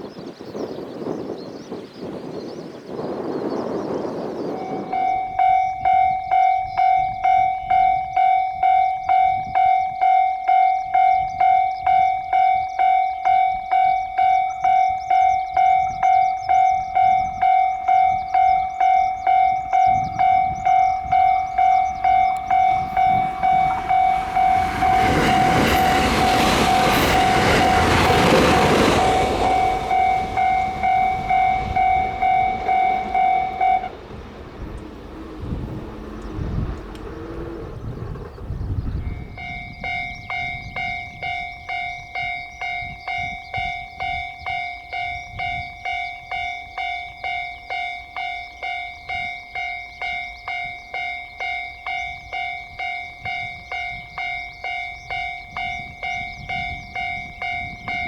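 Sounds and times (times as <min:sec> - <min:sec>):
train wheel noise: 0:02.8 - 0:58.0
level-crossing warning bell: 0:02.9 - 0:58.0.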